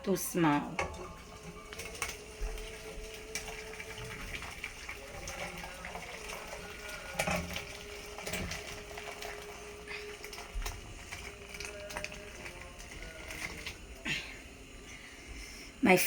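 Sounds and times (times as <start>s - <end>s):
pots knocking: 0.0s - 14.2s
soup pouring and splashing: 0.0s - 15.8s
faint steady hum: 0.0s - 16.0s.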